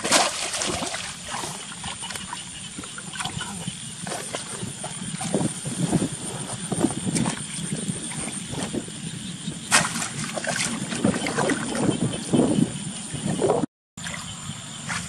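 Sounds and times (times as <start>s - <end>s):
water splashing and sloshing: 0.0s - 12.5s, 14.0s - 15.0s.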